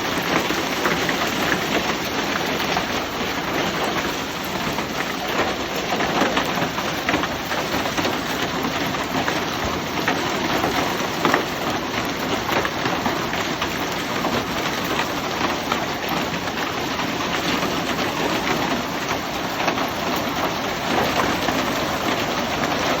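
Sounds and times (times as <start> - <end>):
hail and rain pattering: 0.0 - 23.0.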